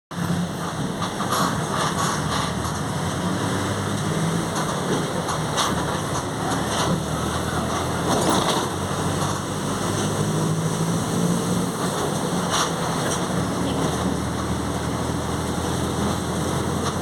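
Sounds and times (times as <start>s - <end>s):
bus drivetrain running: 0.1s - 17.0s.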